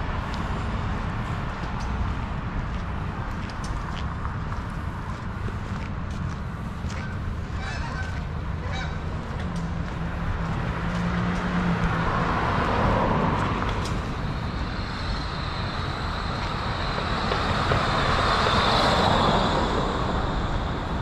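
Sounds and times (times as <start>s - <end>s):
cars passing on road: 0.0s - 21.0s.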